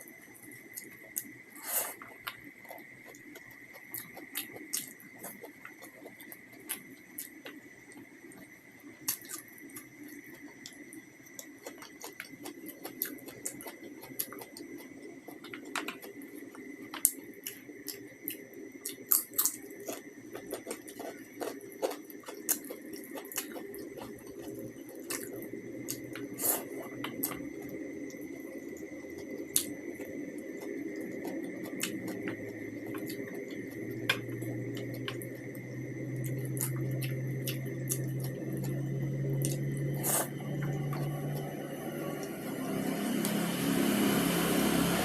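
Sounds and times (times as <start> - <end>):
person chewing and eating: 0.0 - 42.3
steady high whine: 0.0 - 45.0.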